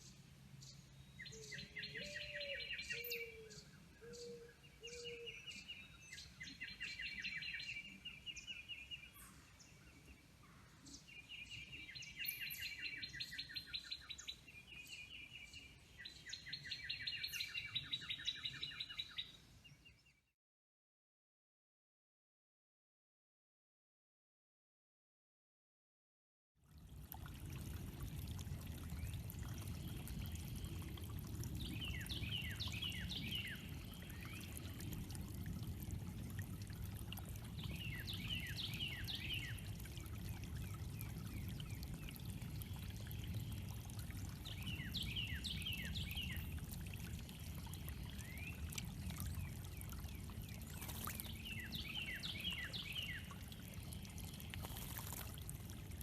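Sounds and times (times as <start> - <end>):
water trickling over stones: 0.0 - 4.0, 4.8 - 19.4, 26.6 - 56.0
songbird singing: 0.0 - 20.3, 27.9 - 35.6, 36.3 - 55.5.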